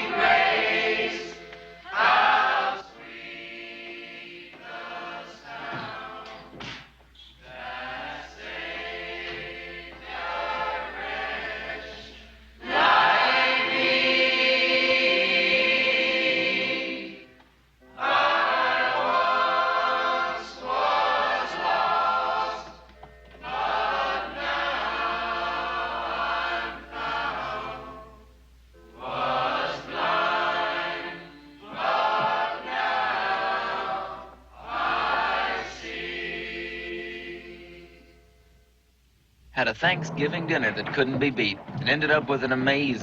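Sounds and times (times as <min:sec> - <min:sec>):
choir singing hymn-like melody: 0:00.0 - 0:38.4.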